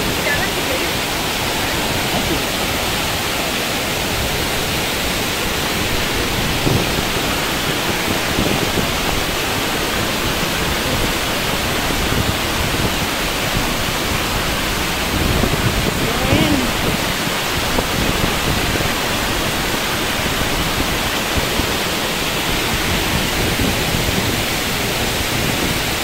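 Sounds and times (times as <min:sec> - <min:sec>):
waterfall pouring: 0:00.0 - 0:26.0.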